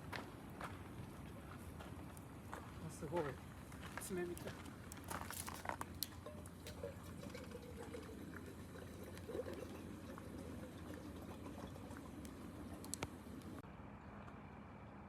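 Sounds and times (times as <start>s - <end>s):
faint fire crackles: 0.1s - 13.6s.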